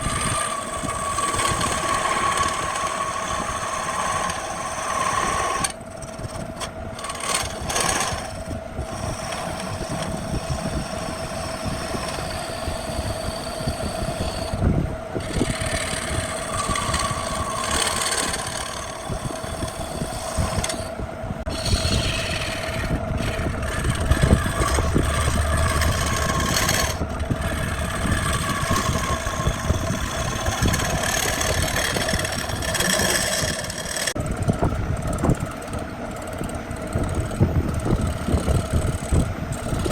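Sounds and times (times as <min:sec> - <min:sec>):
tool cutting spinning wood: 0:00.0 - 0:39.9
wood lathe humming: 0:00.0 - 0:39.9.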